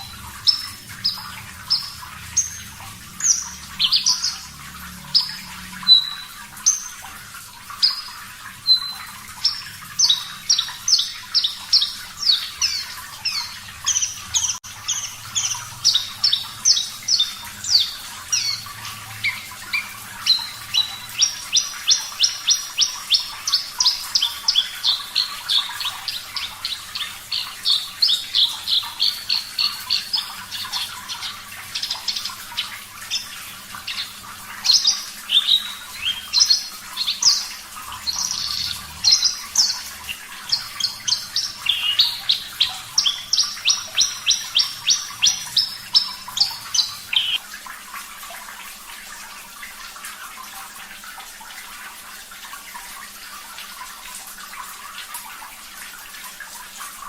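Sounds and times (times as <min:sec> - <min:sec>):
faint trickle of water: 0:00.0 - 0:57.0.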